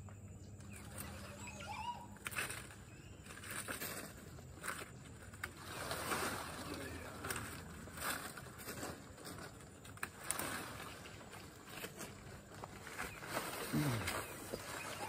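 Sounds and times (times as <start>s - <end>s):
leaves and branches rustling: 0.3s - 15.0s.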